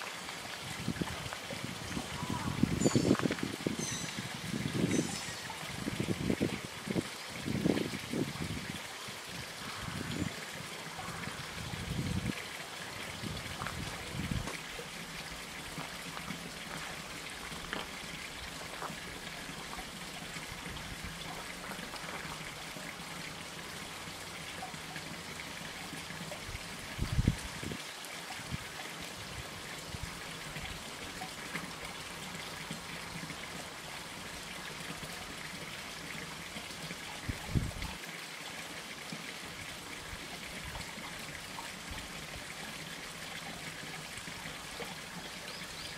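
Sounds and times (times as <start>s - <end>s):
rushing outdoor background noise: 0.0s - 38.0s.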